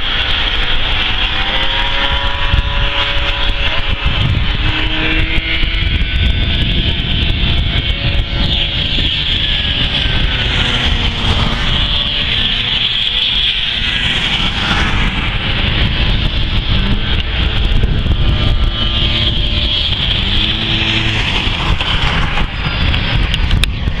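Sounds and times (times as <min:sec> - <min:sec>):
snowmobile engines at high revs: 0:00.0 - 0:24.0.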